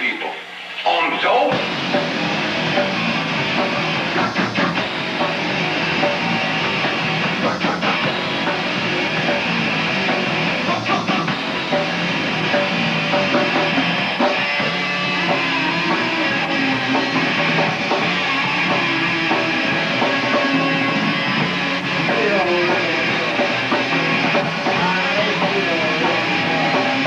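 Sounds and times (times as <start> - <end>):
drum kit: 0.0 - 27.0
electric guitar: 0.0 - 27.0.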